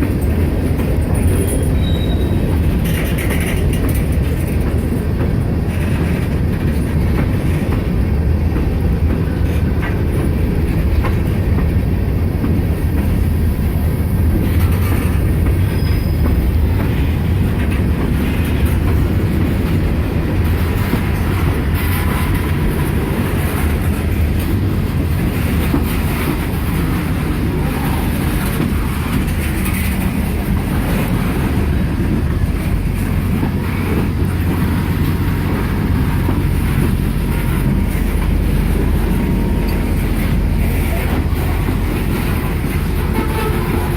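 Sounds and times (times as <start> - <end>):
freight train rolling past: 0.0 - 43.9
wheels clicking over rail joints: 0.0 - 43.9.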